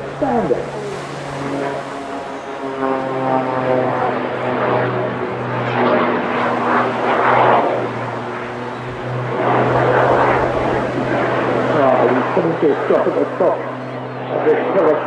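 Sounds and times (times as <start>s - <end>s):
propeller engine drone: 0.0s - 15.0s.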